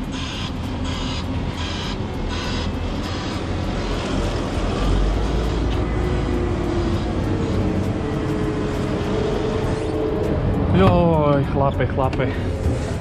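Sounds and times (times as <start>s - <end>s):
forklift engine running: 0.0s - 11.8s
high beeping: 0.1s - 10.7s.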